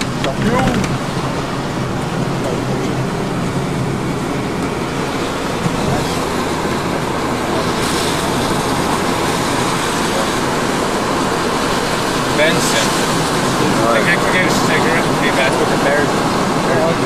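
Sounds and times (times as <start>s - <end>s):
engine and tyre rumble: 0.0s - 17.0s
road hiss: 0.0s - 17.0s.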